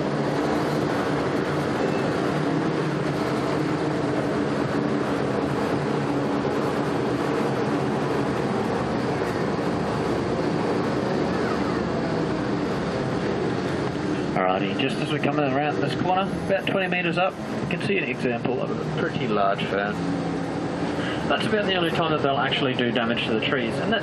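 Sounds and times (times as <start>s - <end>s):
amphibious truck engine running: 0.0s - 24.0s.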